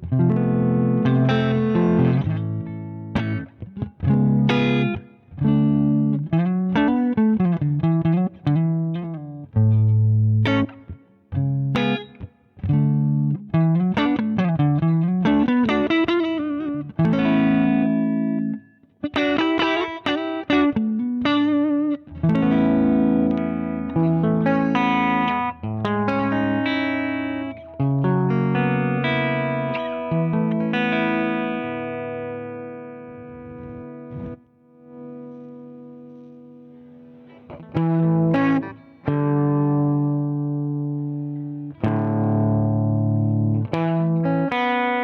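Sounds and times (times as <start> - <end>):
overdriven electric guitar: 0.0 - 45.0.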